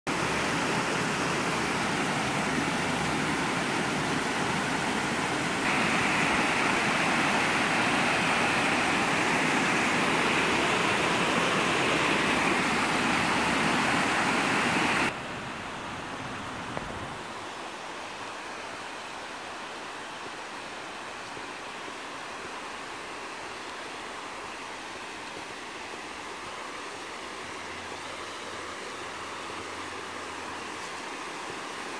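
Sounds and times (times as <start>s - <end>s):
creek water rushing over rocks: 0.1s - 31.9s.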